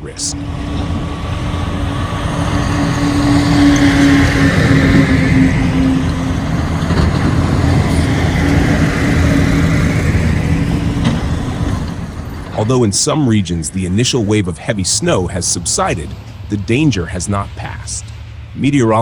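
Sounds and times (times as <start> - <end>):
engine hum: 0.0 - 19.0
road noise: 0.0 - 19.0.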